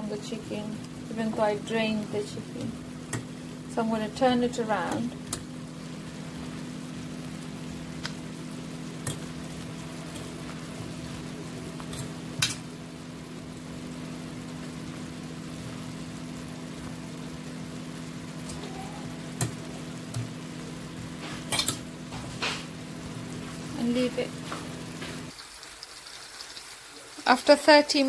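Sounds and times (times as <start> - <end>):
steady low hum: 0.0 - 25.3
chicken sizzling in skillet: 0.0 - 28.0.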